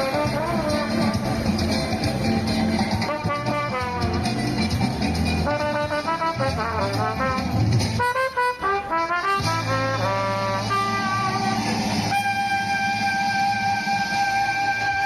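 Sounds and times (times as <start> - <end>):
solo trumpet melody: 0.0 - 1.5, 3.1 - 4.2, 5.4 - 15.0.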